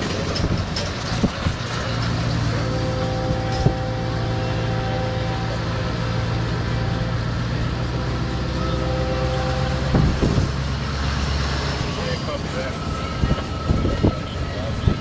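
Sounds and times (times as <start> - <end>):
diesel engine running: 0.0 - 15.0
road noise: 0.0 - 15.0.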